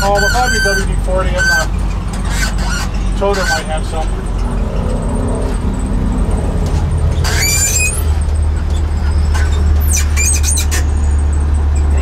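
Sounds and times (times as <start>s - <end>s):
short high squeaks: 0.0s - 5.6s, 7.0s - 11.9s
high squeal: 0.0s - 5.9s, 7.1s - 11.4s
truck engine droning: 0.0s - 12.0s.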